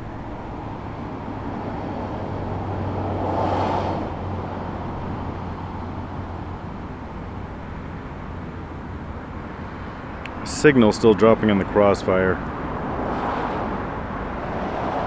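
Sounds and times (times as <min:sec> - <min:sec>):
rush of noise: 0:00.0 - 0:07.2, 0:09.4 - 0:15.0
outdoor background rumble: 0:00.0 - 0:15.0.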